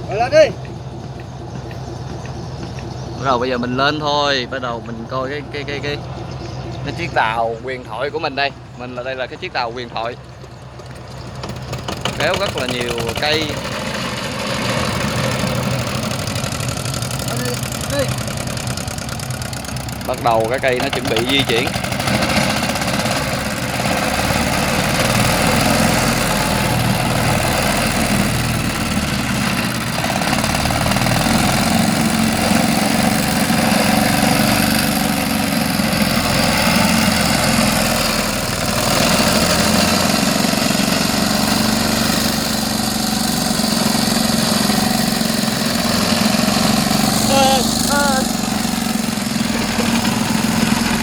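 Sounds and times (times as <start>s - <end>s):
tugboat engine running: 0.0s - 51.0s.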